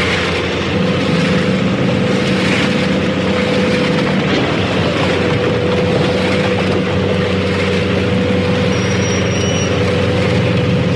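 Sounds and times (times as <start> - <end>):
harvester engine hum: 0.0 - 10.9
machinery rattling: 0.0 - 10.9.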